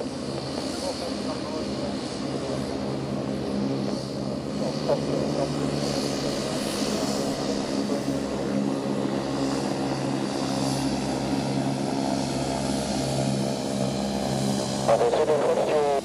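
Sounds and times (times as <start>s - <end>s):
propeller aircraft engine humming: 0.0s - 16.0s.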